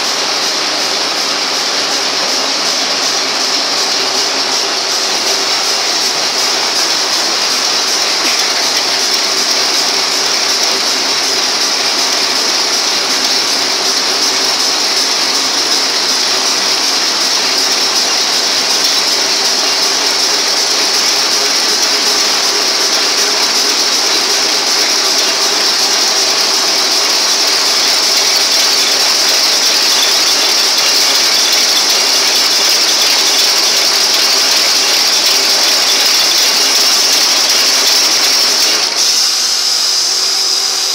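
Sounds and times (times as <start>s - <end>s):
machine rapid mechanical clatter: 0.0s - 40.9s.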